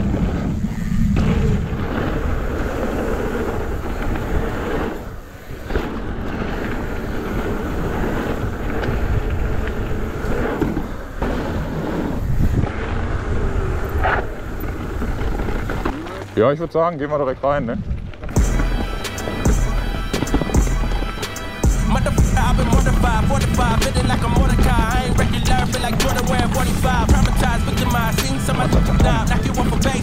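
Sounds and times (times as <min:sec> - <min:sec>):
wind rushing over microphone: 0:00.0 - 0:15.9, 0:17.3 - 0:30.0
bike tyres rumbling on trail: 0:00.0 - 0:30.0.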